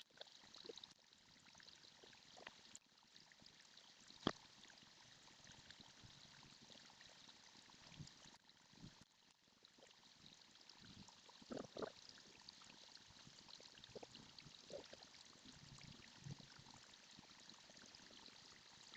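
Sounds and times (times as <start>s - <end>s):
faint running water: 0.0s - 18.9s.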